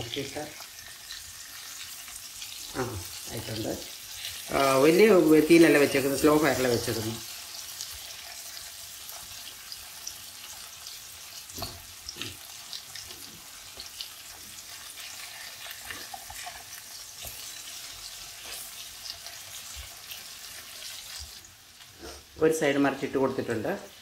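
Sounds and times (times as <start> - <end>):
fish sizzling in oil: 0.0 - 24.0.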